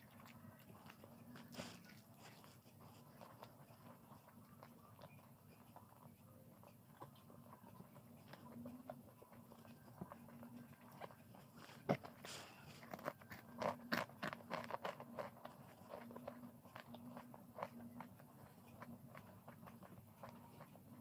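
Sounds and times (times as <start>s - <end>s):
chewing with small clicks: 0.0s - 21.0s
faint steady hum: 0.0s - 21.0s.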